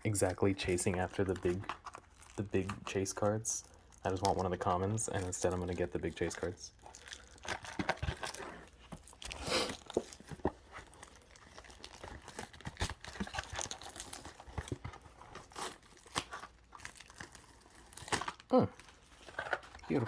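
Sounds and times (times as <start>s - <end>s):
foil wrappers crinkling and tearing: 0.1s - 20.0s.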